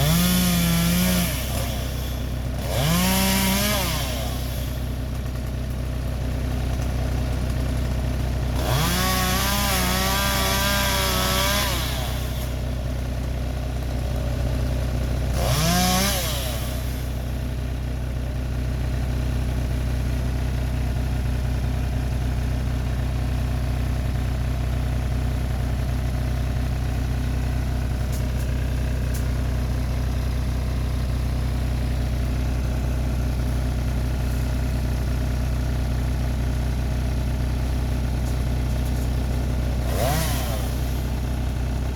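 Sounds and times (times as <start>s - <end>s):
engine idling and revving: 0.0s - 41.9s.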